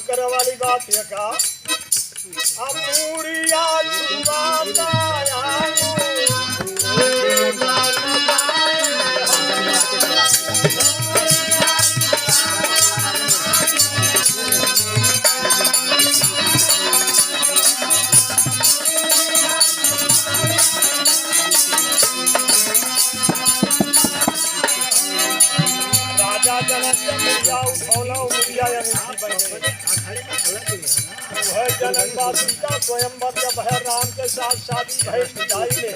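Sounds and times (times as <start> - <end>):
folk music melody: 0.0 - 35.9
rattling percussion: 0.0 - 35.9.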